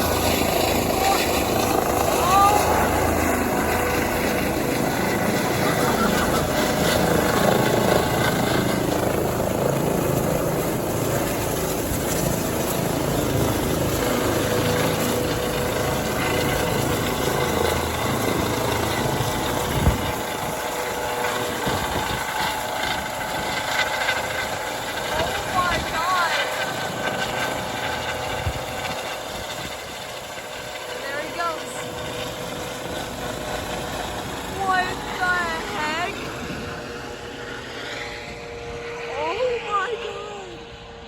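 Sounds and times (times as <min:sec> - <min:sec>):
helicopter turbine whine and rotors: 0:00.0 - 0:41.0.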